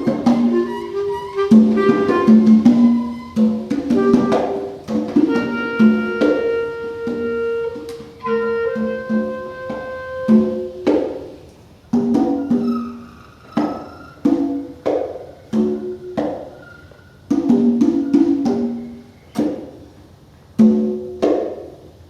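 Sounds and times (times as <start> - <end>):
conga strikes: 0.0 - 22.0.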